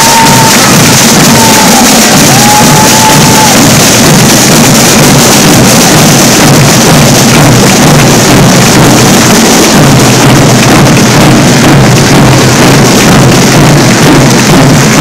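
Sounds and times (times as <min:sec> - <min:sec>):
marching snare drums: 0:00.0 - 0:15.0.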